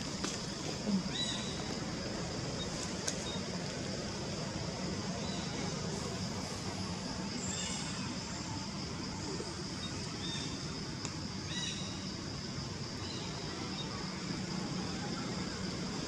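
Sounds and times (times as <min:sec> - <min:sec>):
constant high-pitched hum: 0:00.0 - 0:16.0.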